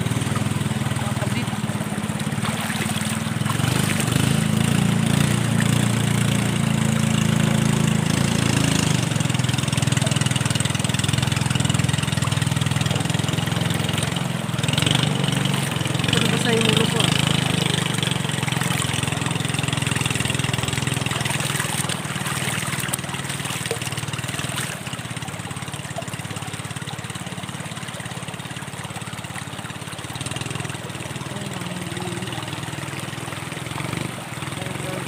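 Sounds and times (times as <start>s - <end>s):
small boat engine running: 0.0s - 35.0s.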